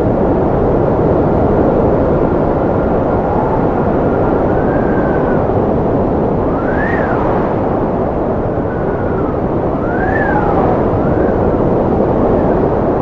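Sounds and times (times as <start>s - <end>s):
strong wind howling: 0.0s - 13.0s.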